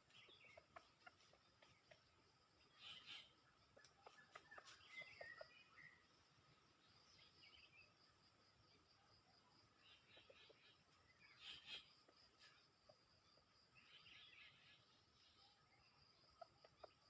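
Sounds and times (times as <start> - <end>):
bird calls: 0.0 - 8.0, 9.7 - 17.0.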